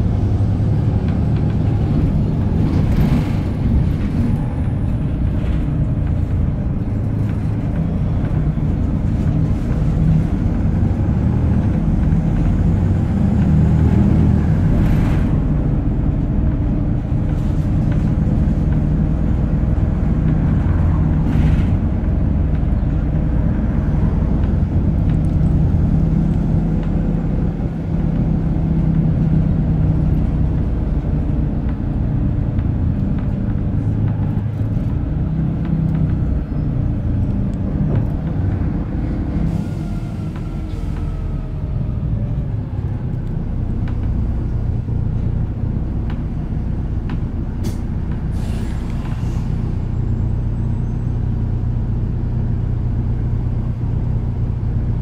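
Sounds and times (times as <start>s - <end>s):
bus diesel engine drone: 0.0s - 55.0s
road noise: 0.0s - 55.0s.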